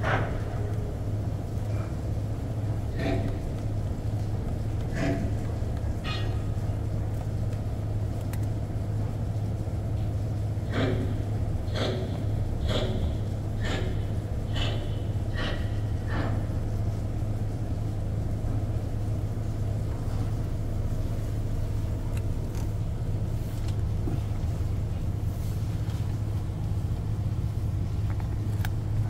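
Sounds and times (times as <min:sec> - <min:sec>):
ship engine drone: 0:00.0 - 0:29.0.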